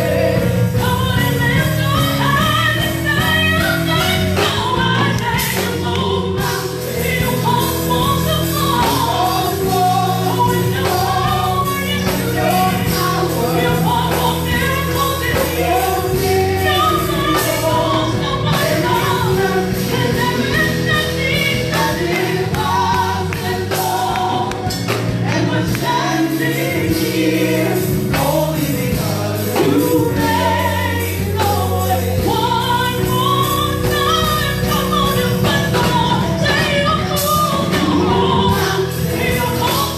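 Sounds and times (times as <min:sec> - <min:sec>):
choir singing: 0:00.0 - 0:03.2, 0:04.8 - 0:34.0, 0:37.0 - 0:39.9
band playing: 0:00.0 - 0:39.9
sustained bass notes: 0:00.0 - 0:39.9.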